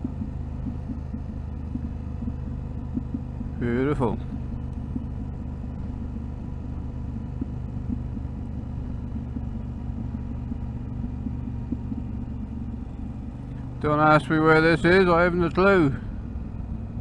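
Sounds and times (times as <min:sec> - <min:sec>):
motorcycle engine running: 0:00.0 - 0:17.0
road and wind rumble: 0:00.0 - 0:17.0.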